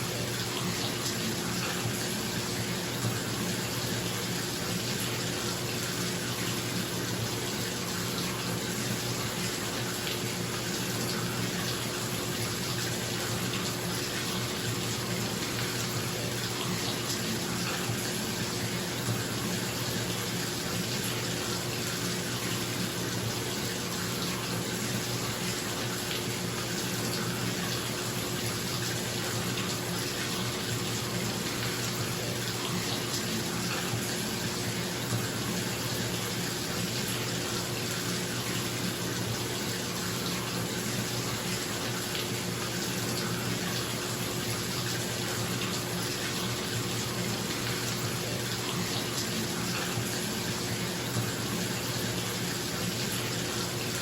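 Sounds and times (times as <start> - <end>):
bathroom exhaust fan humming: 0.0 - 54.0
bathtub tap running: 0.0 - 54.0.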